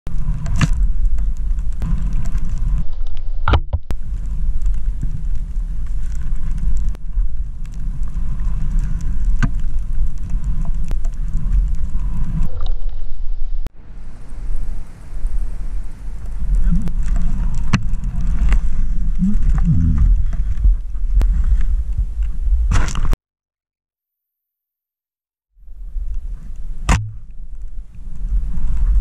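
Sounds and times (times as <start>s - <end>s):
wind rumbling on microphone: 0.1s - 23.2s, 25.6s - 29.0s.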